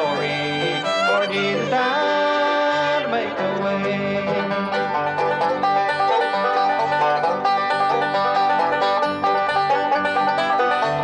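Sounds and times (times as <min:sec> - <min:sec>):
bluegrass band playing: 0:00.0 - 0:11.0
fast banjo picking: 0:00.0 - 0:11.0.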